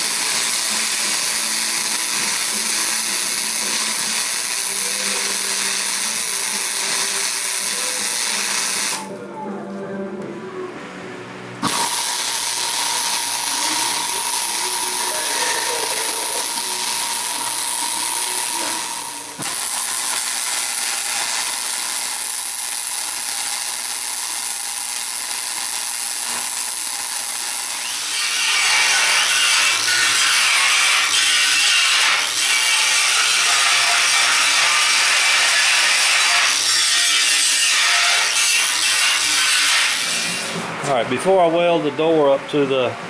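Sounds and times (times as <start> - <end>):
angle grinder grinding metal: 0.0 - 9.1, 11.6 - 40.7
welder arc crackling: 0.0 - 9.2, 11.6 - 40.7.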